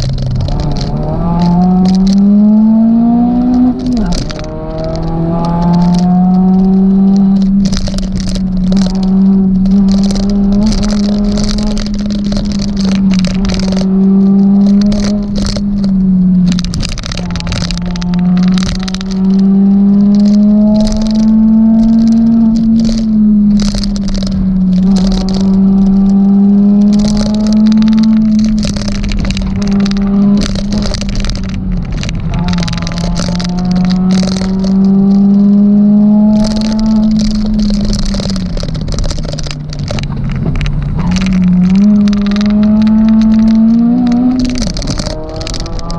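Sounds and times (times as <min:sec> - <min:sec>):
car engine at high revs: 0:00.0 - 0:45.9
sharp rattles and clatters: 0:00.0 - 0:45.9.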